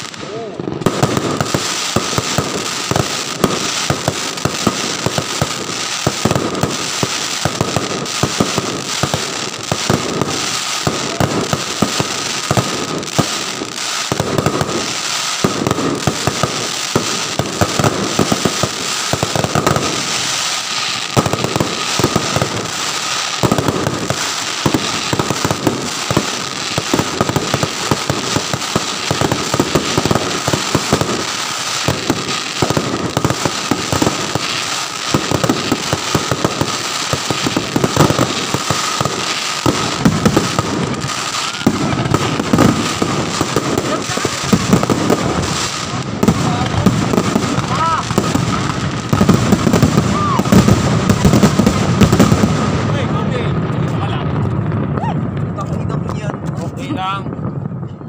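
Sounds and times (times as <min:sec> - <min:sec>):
fireworks and firecrackers barrage: 0:00.0 - 0:58.0.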